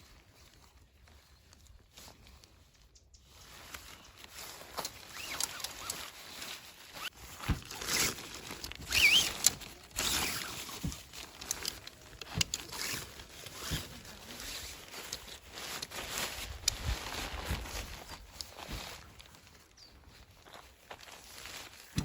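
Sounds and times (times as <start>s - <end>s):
camping gear rustling and knocking: 0.0s - 22.0s.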